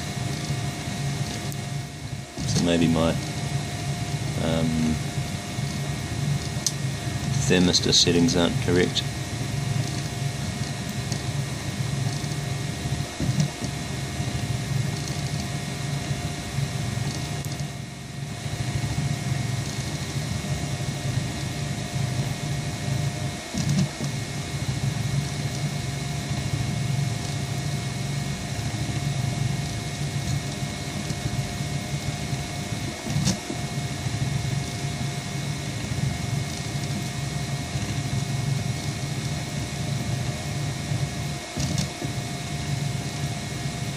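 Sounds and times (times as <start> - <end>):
printer motors and fan humming: 0.0 - 43.9.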